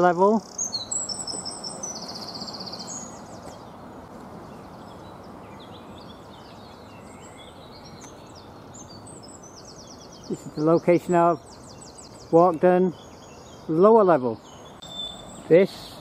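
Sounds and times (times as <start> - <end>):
low outdoor rush: 0.0 - 16.0
songbirds chirping: 0.0 - 16.0.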